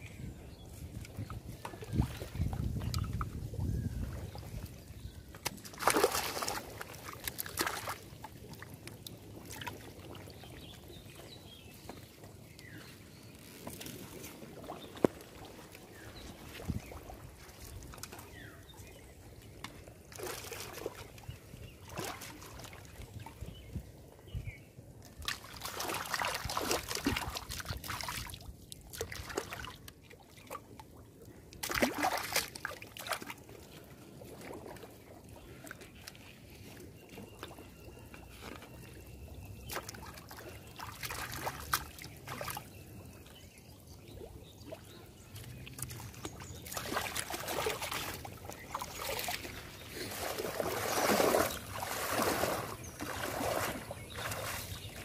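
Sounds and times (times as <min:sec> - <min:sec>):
water sloshing and splashing: 0:00.7 - 0:24.3, 0:24.9 - 0:55.0.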